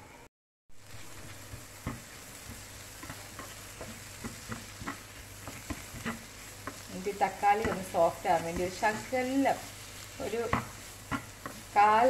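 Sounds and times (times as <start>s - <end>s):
food sizzling in a pan: 0.0s - 12.0s
spatula scraping a pan: 1.0s - 12.0s.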